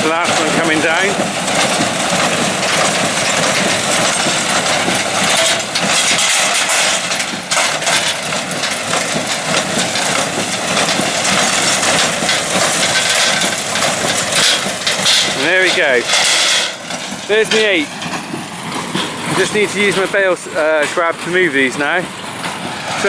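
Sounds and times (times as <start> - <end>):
tractor and baler running: 0.0 - 23.0.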